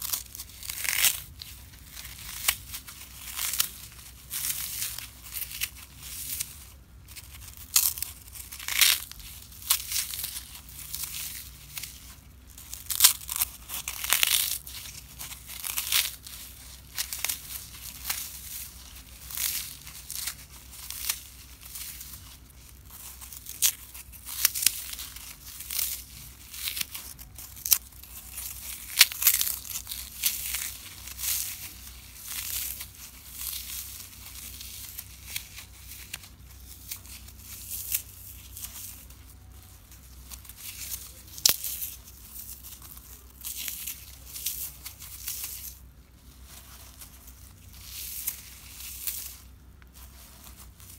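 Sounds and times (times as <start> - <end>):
floral foam crunching by hand: 0.0 - 50.9.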